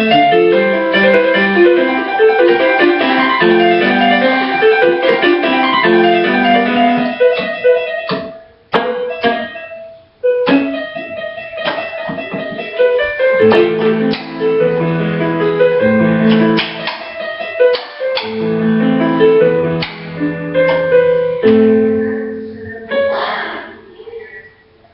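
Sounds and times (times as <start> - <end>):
keyboard piano melody: 0.0 - 24.9.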